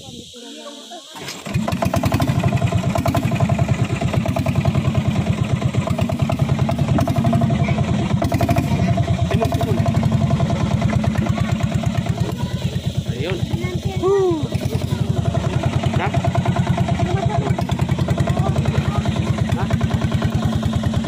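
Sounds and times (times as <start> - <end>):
small boat engine running: 1.2 - 21.0.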